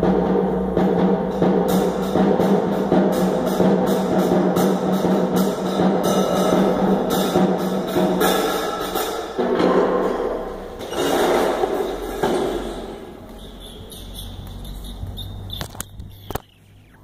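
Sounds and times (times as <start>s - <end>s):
drum kit playing: 0.0s - 13.9s.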